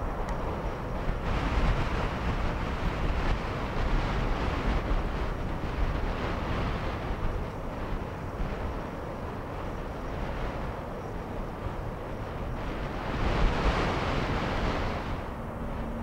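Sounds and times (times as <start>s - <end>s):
wildfire roaring through trees: 0.0s - 16.0s
wind buffeting microphone: 0.0s - 16.0s.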